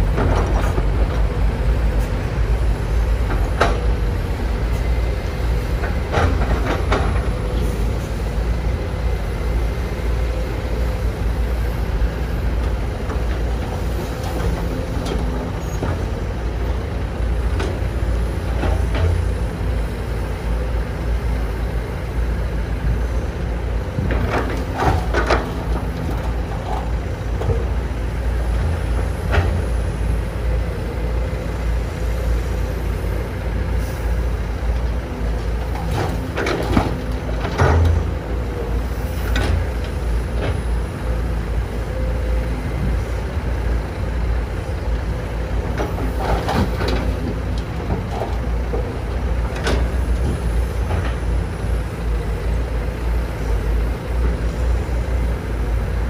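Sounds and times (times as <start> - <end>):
diesel engines rumbling: 0.0 - 56.0.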